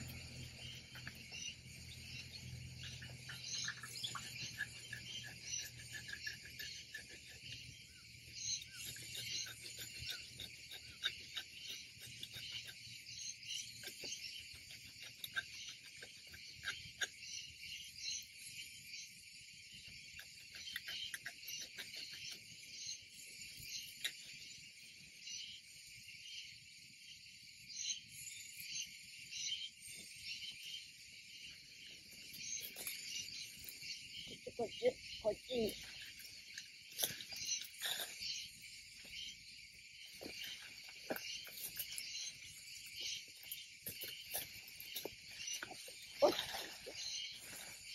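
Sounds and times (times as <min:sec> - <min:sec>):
insect chorus chirring: 0:00.0 - 0:47.9.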